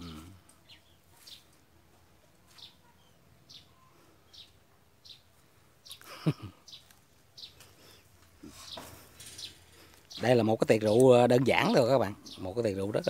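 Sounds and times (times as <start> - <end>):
bird chirping: 0.0 - 1.6, 2.4 - 13.0.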